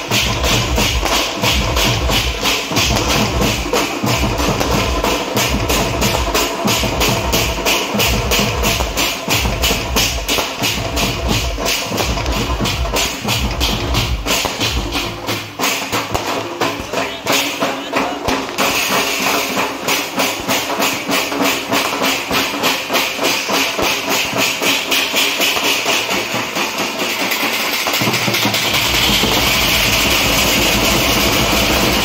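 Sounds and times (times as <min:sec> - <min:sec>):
metal drums beaten fast: 0:00.0 - 0:32.0.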